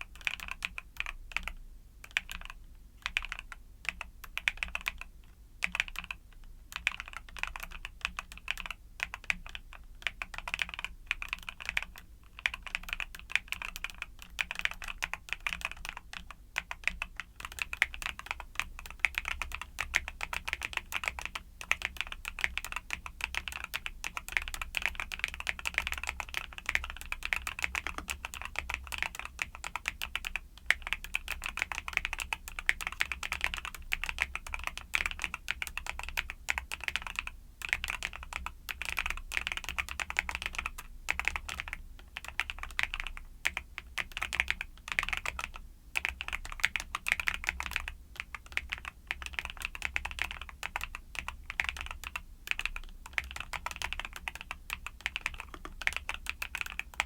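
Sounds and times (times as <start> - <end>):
mechanical keyboard typing: 0.1 - 57.0.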